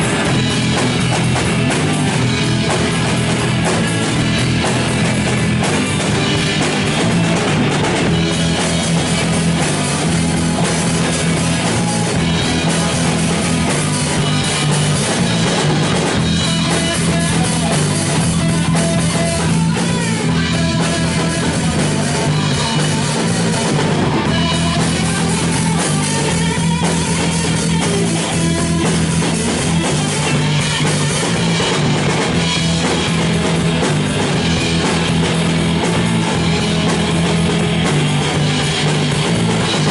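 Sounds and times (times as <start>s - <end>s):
bass guitar: 0.0s - 39.9s
distorted electric guitar: 0.0s - 39.9s
drum kit: 0.0s - 39.9s.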